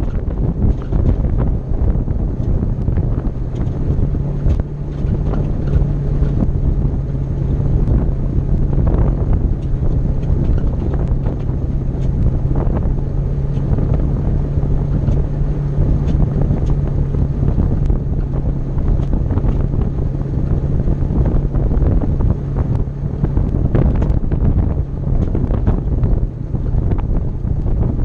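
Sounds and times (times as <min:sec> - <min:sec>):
vehicle engine droning: 0:00.0 - 0:28.0
wind on microphone: 0:00.0 - 0:28.0.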